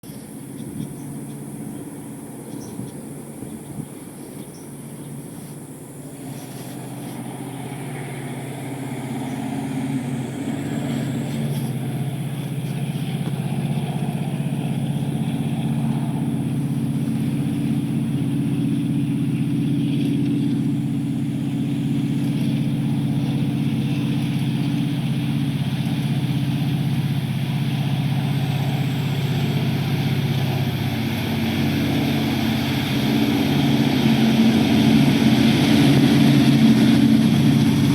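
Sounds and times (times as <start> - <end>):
model locomotive engine drone: 0.0 - 37.9.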